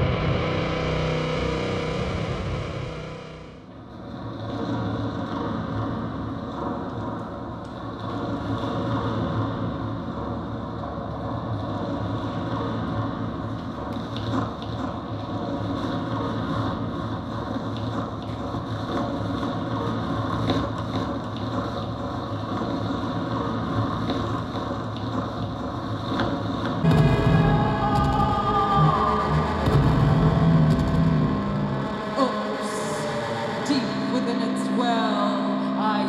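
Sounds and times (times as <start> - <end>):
rumbling crackling noise music: 0.0 - 36.0
steady low hum: 0.0 - 36.0.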